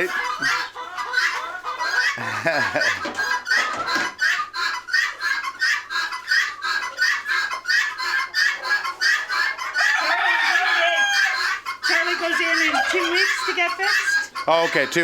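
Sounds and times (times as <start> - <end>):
guinea fowl alarm calls: 0.0 - 15.0.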